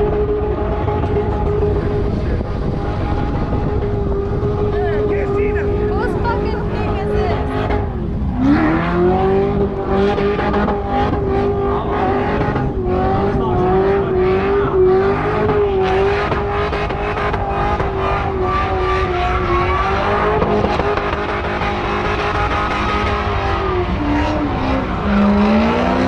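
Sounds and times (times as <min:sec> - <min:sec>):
engine revving in a burnout: 0:00.0 - 0:26.0.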